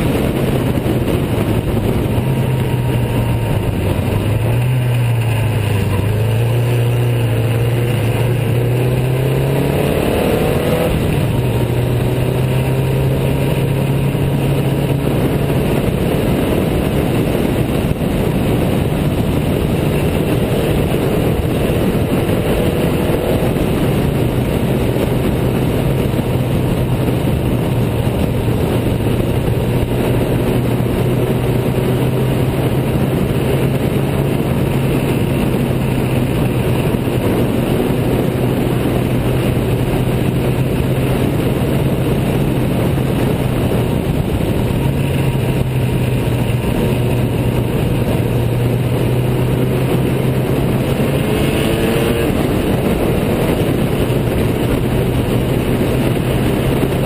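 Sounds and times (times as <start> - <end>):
car engine running hard: 0.0 - 57.0
wind and road noise: 0.0 - 57.0.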